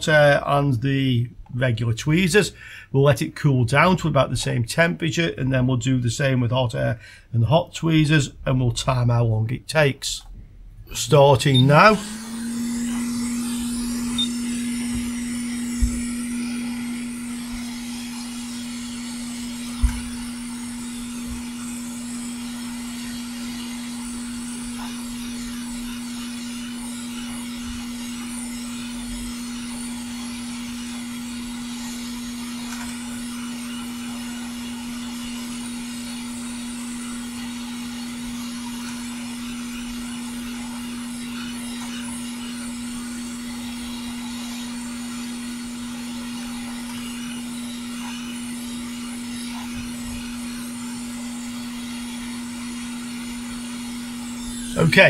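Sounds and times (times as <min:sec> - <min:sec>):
hot air blower hissing: 0:10.9 - 0:55.0.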